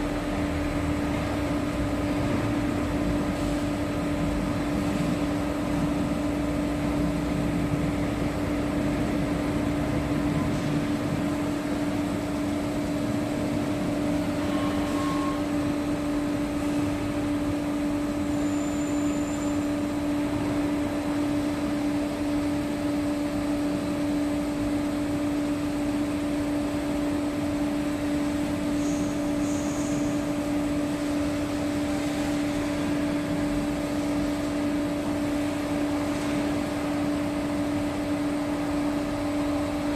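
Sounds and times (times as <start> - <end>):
hydraulic power unit humming: 0.0 - 39.9.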